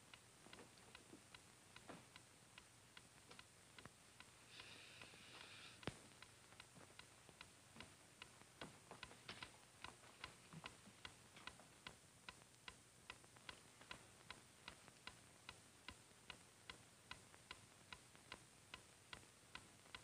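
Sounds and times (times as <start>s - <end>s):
clock ticking faintly: 0.0s - 20.0s.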